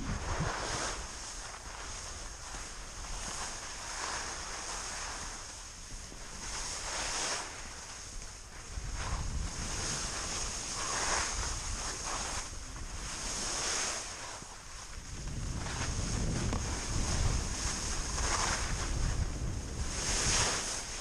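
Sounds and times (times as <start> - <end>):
wind buffeting microphone: 0.0 - 4.8, 8.0 - 21.0
skis hissing through powder snow: 0.0 - 21.0.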